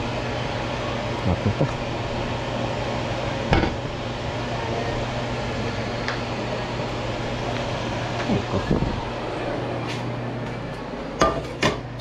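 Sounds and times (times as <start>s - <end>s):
stockpot boiling with hiss: 0.0s - 9.9s.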